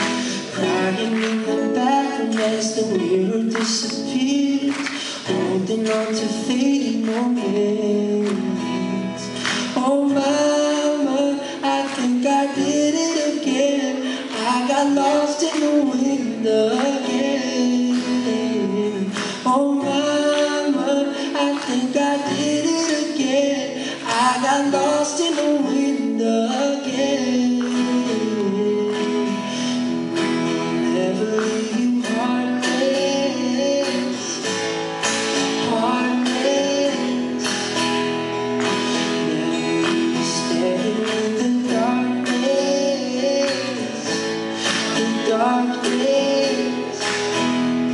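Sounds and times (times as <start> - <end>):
man singing: 0.0 - 38.0, 38.6 - 47.9
strummed acoustic guitar: 0.0 - 47.9.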